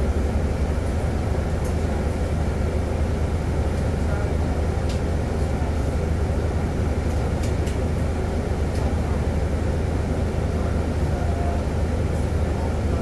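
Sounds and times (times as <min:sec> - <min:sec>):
bus engine humming: 0:00.0 - 0:13.0.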